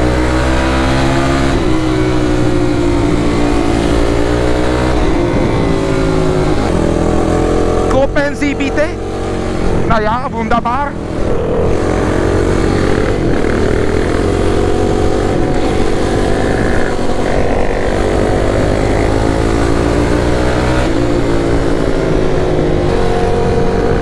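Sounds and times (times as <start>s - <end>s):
motorcycle engine accelerating: 0.0s - 24.0s
wind rush: 0.8s - 24.0s.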